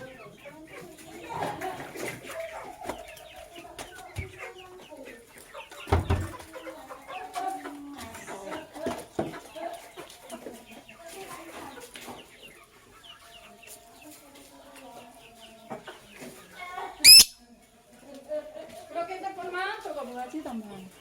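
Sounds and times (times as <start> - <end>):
birds clucking and chirping: 0.0 - 21.0.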